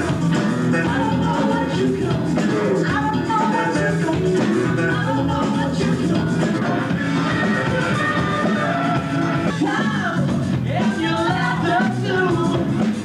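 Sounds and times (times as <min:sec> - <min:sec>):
drums: 0:00.0 - 0:13.0
electric guitar: 0:00.0 - 0:13.0
person singing: 0:00.0 - 0:13.0.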